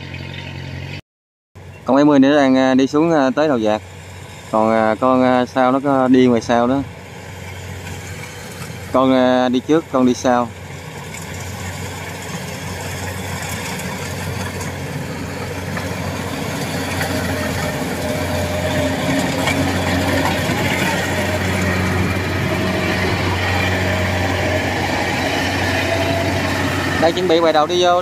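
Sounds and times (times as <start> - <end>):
combine harvester engine hum: 1.6 - 28.0.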